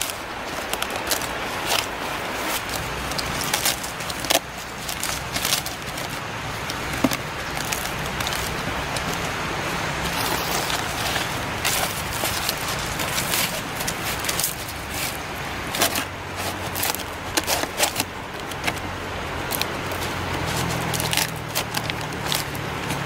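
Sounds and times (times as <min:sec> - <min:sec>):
bamboo poles knocking: 0:00.0 - 0:23.0
dry palm fronds rustling: 0:00.0 - 0:23.0.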